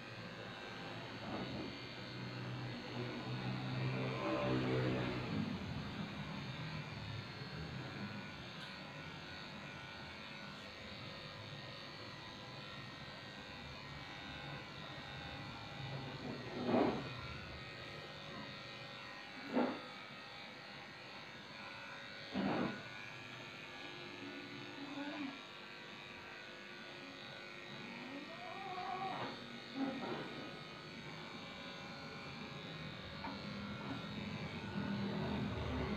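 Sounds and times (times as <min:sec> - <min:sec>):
electric clippers running: 0:00.0 - 0:35.9.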